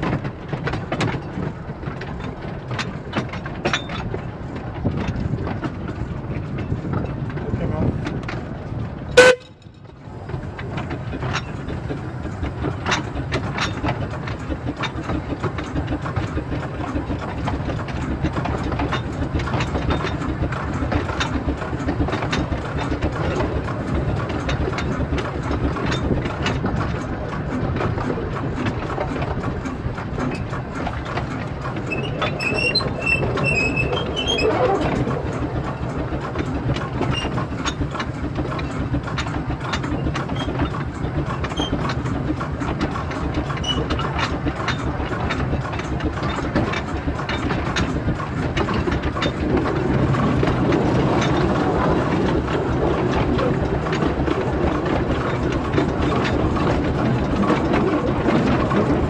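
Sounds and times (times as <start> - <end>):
steam locomotive running: 0.0 - 59.0.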